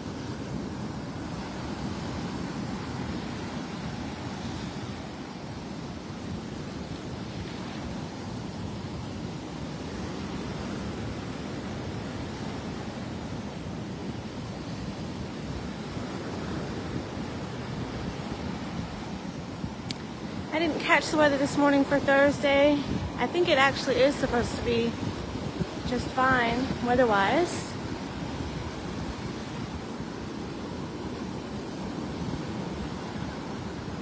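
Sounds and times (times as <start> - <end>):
surf breaking on beach: 0.0 - 34.0.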